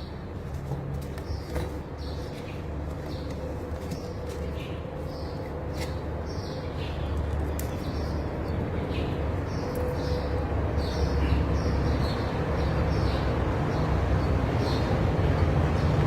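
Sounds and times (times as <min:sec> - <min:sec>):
birds chirping: 0:00.0 - 0:16.0
low mechanical hum: 0:00.0 - 0:16.0.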